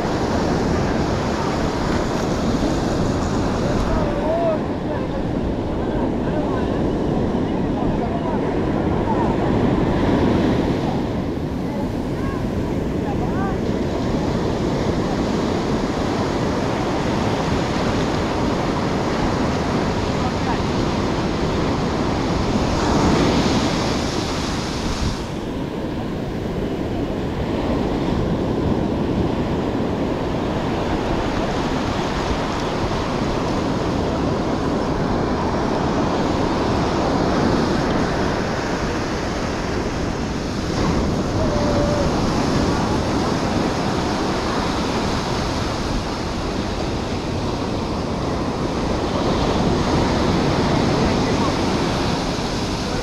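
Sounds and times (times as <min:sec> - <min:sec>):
ocean surf breaking: 0:00.0 - 0:53.0.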